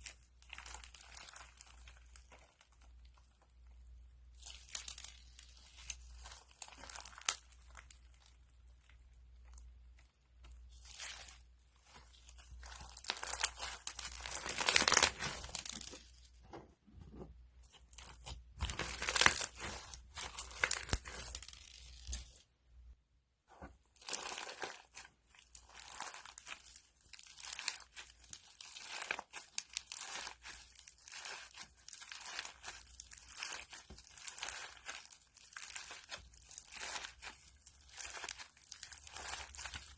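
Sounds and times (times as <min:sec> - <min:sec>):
crunchy slime crackling: 0:00.0 - 0:16.3, 0:17.7 - 0:22.4, 0:23.9 - 0:39.9.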